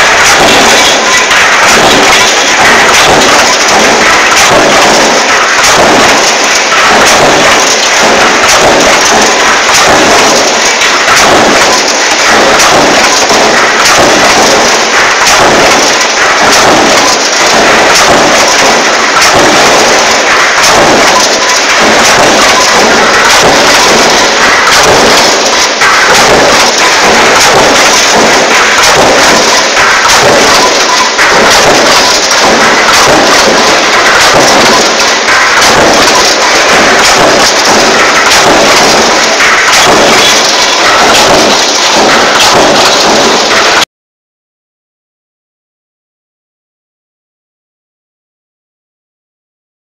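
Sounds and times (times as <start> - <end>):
loud mechanical clatter: 0.0 - 43.9
power press heavy strikes: 0.0 - 43.9.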